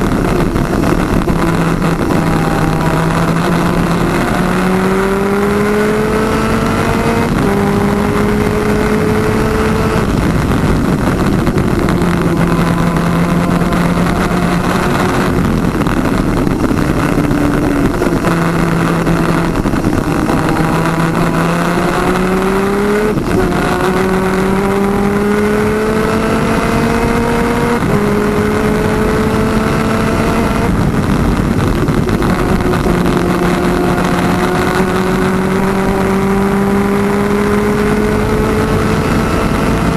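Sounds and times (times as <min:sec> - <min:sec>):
kart engine at race speed: 0:00.0 - 0:39.9
wind noise on microphone: 0:00.0 - 0:39.9.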